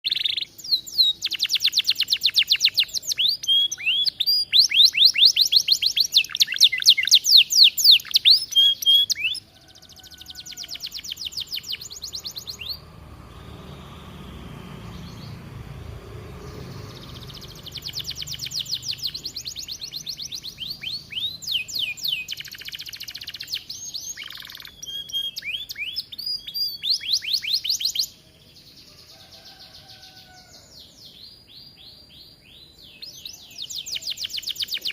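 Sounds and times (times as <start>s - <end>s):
canary singing rapid trills: 0.0s - 28.2s, 31.6s - 34.9s.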